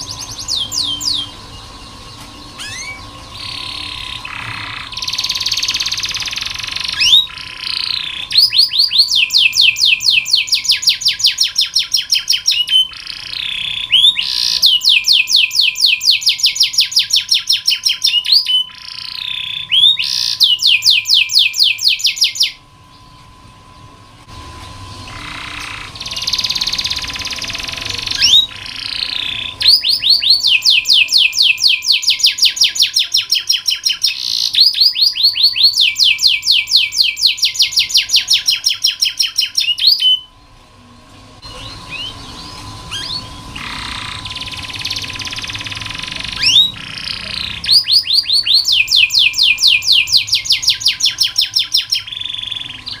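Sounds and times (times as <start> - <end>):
canary singing trills: 0.0 - 40.6, 41.4 - 53.0.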